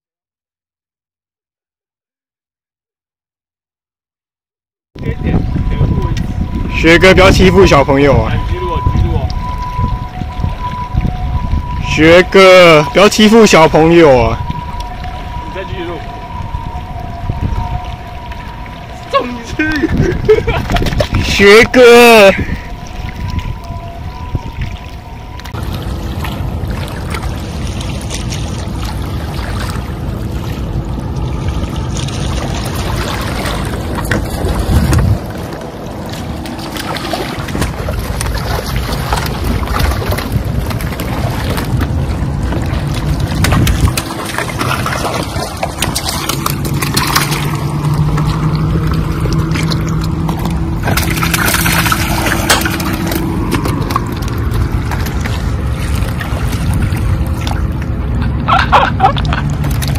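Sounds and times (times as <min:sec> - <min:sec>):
wind buffeting microphone: 0:05.0 - 0:59.9
water washing against rocks: 0:08.9 - 0:59.9.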